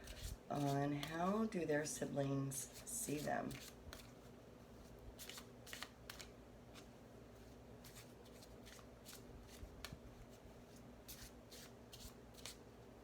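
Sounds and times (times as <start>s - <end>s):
cards being shuffled: 0.0s - 1.4s, 2.7s - 12.6s.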